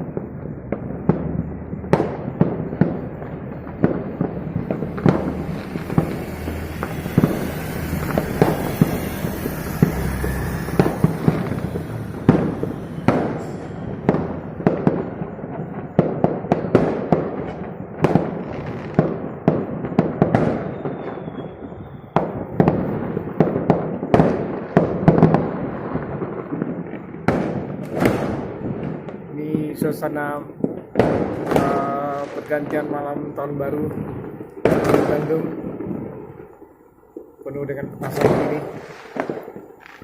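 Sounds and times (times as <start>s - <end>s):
fireworks and firecrackers banging: 0.0s - 40.0s.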